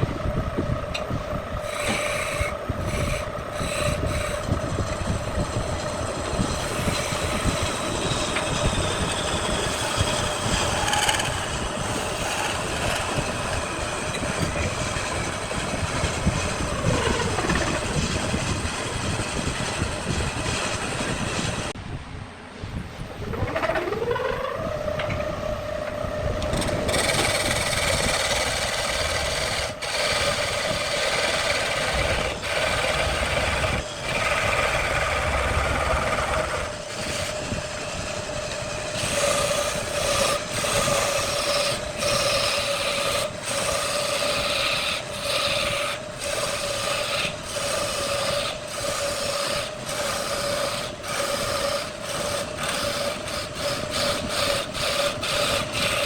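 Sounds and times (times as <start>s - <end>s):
lathe motor hum: 0.0s - 21.8s, 23.0s - 56.0s
turning tool cutting wood: 0.0s - 21.8s, 23.2s - 56.0s.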